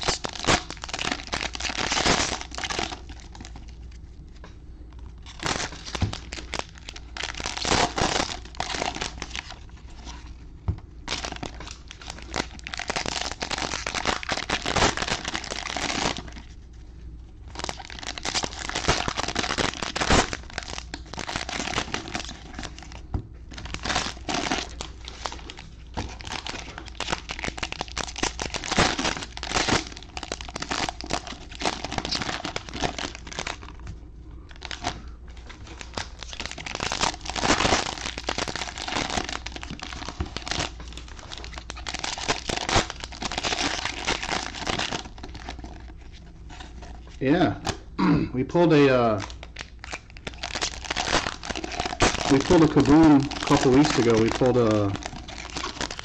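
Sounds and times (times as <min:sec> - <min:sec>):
plastic wrappers crinkling and tearing: 0:00.0 - 0:04.4, 0:05.1 - 0:10.4, 0:11.0 - 0:16.6, 0:17.5 - 0:33.9, 0:34.5 - 0:47.8, 0:48.5 - 0:56.0.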